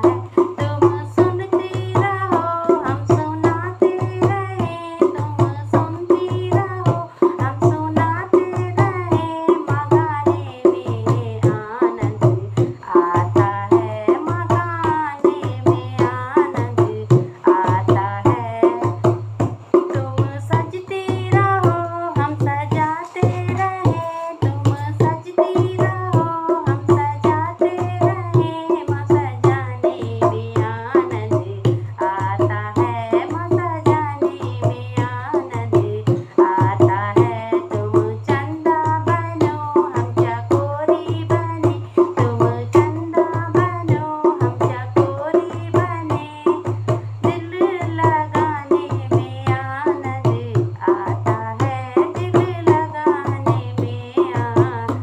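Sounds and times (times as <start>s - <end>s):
hand drum beat: 0.0s - 55.0s
woman singing: 0.0s - 55.0s.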